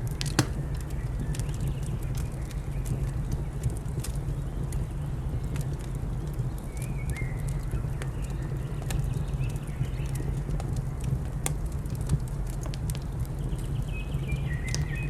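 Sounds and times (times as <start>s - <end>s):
wood fire crackling: 0.0s - 3.0s, 3.6s - 13.9s.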